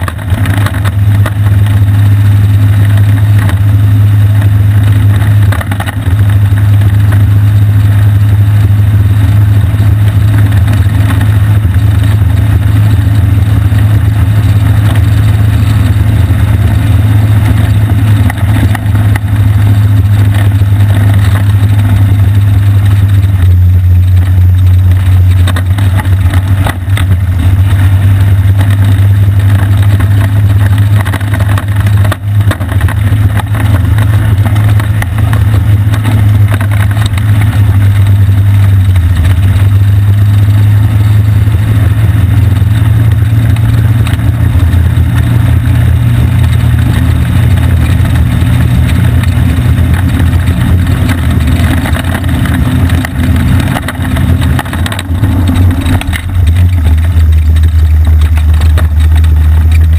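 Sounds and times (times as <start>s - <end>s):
go-kart engine droning: 0.0s - 59.9s.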